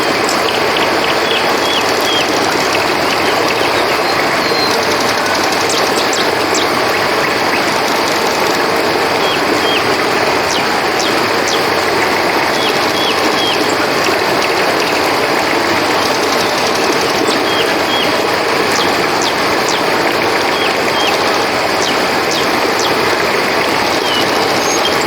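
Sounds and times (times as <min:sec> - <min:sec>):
crickets trilling: 0:00.0 - 0:25.0
river water rushing: 0:00.0 - 0:25.0.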